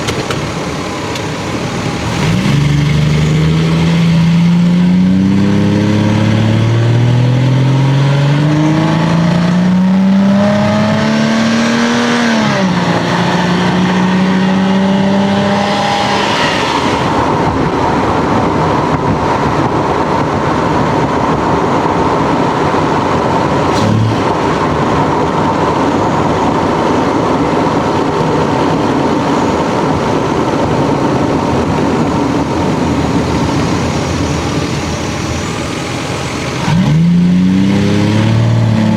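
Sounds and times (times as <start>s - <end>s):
car engine accelerating: 0.0s - 38.9s
road and wind noise: 0.0s - 38.9s.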